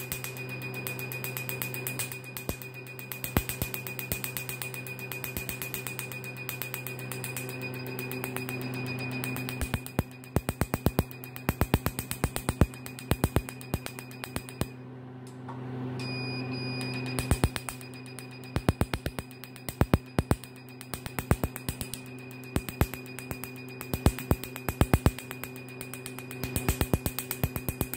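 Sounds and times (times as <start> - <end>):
laser pulses clicking: 0.0 - 14.7, 16.8 - 27.9
laser machine hum and high tone: 0.0 - 15.0, 15.8 - 27.9.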